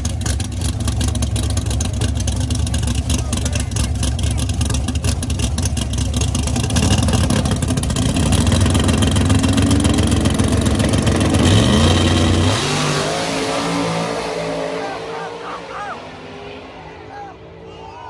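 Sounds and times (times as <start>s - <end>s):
drag car engine revving: 0.0s - 17.9s.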